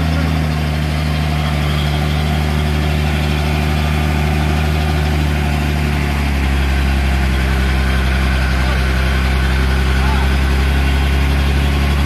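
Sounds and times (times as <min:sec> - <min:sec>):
truck diesel engine pulling uphill: 0:00.0 - 0:12.0.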